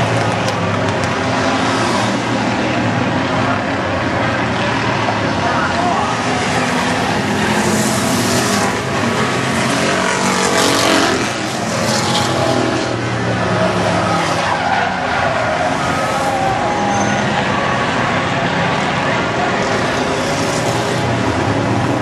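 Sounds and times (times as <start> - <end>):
race car engines passing: 0.0 - 22.0
tyres skidding: 0.0 - 22.0.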